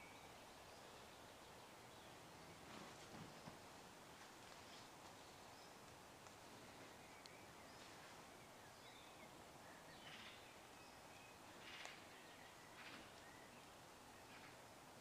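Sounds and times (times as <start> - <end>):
faint bird chirps: 0.0 - 2.8, 4.6 - 14.8
background hiss: 0.0 - 15.0.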